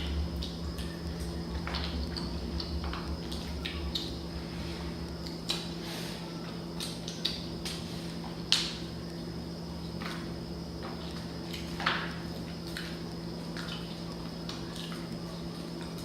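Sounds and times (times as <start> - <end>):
wet eating sounds: 0.0 - 9.0, 9.7 - 16.0
steady low hum: 0.0 - 16.0.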